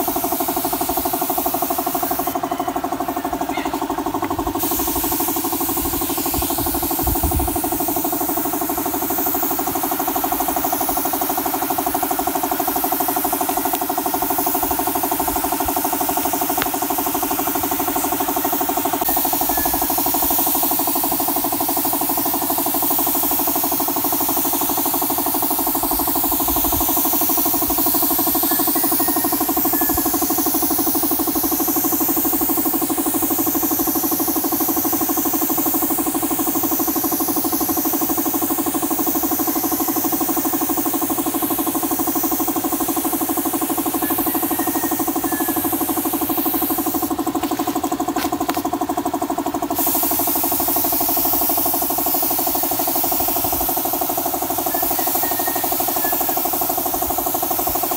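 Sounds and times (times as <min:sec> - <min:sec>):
air compressor humming: 0:00.0 - 0:57.9
spray gun hissing: 0:00.0 - 0:57.9.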